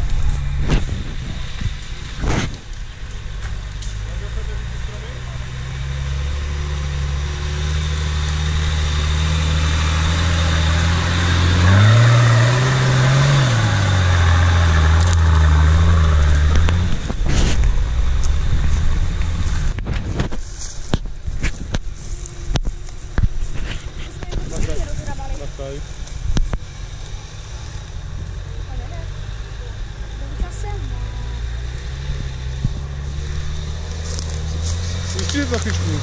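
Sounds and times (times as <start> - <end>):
off-road vehicle engine revving: 0.0 - 36.0.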